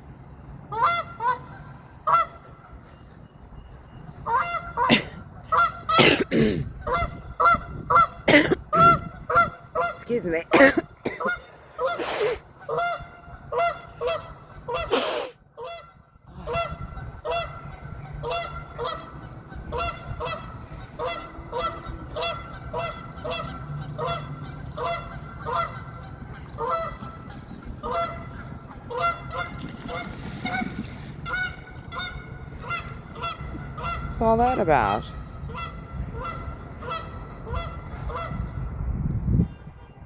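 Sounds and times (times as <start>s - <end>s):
geese honking: 0.7s - 2.9s, 4.2s - 38.6s.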